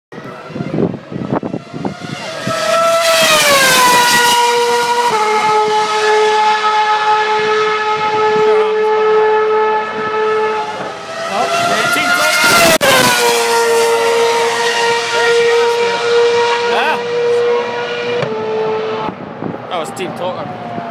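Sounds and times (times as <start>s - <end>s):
rising engine note: 0.1s - 20.9s
race car engine passing: 0.2s - 20.9s.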